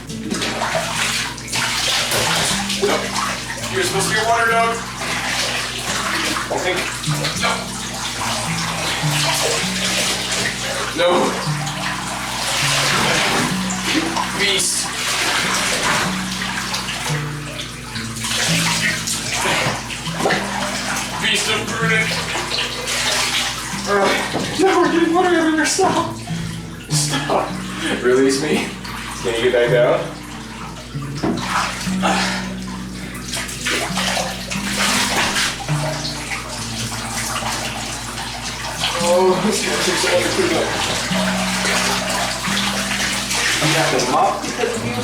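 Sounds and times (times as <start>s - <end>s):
water splashing in a bathtub: 0.0s - 45.0s.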